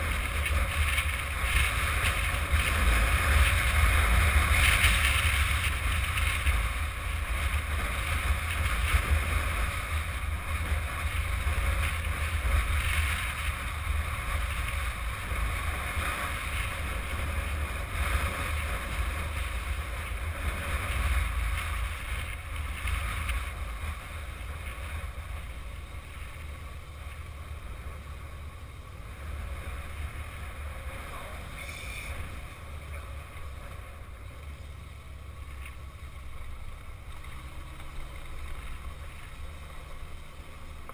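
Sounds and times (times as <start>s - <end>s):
low motorcycle rumble: 0.0s - 40.9s.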